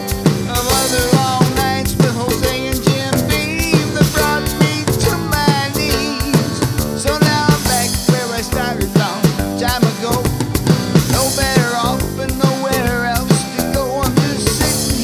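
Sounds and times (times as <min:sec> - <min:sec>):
acoustic guitar: 0:00.0 - 0:15.0
electric guitar lead line: 0:00.0 - 0:15.0
steady drum beat: 0:00.0 - 0:15.0.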